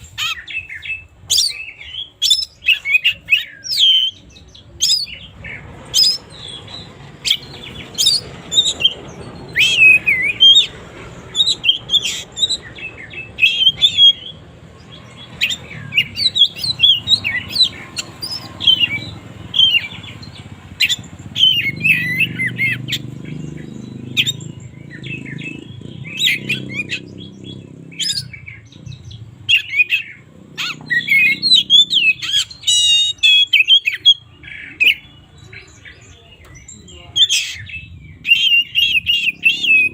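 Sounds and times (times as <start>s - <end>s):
fast rattling bird trill: 0.0s - 35.2s
bird singing: 0.0s - 39.9s.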